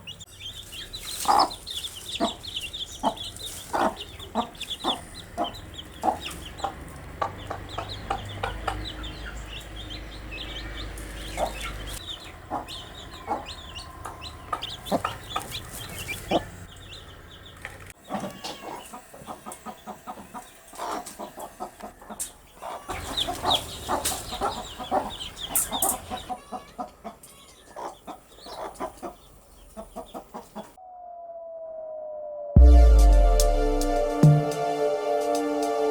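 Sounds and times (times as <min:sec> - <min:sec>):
baby chicks peeping: 0:00.0 - 0:30.8.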